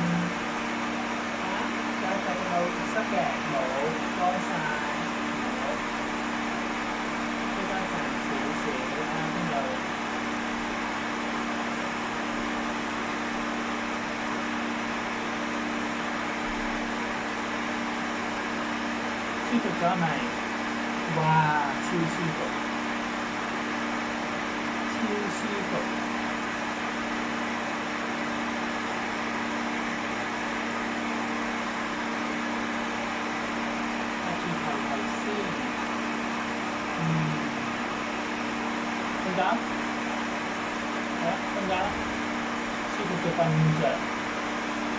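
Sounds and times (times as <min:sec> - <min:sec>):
hair dryer blowing air: 0:00.0 - 0:44.9
motor hum: 0:00.0 - 0:44.9.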